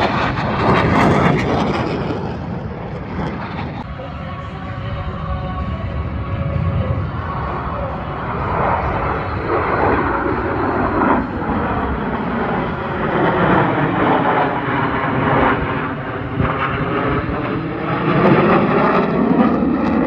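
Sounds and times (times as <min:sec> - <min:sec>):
jets roaring overhead: 0:00.0 - 0:20.0.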